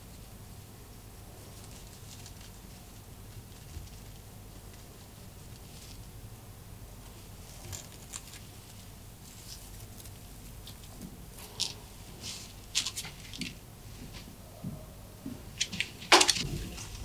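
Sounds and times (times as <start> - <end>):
rabbit scratching and rustling paper: 0.0 - 14.2, 15.6 - 17.0.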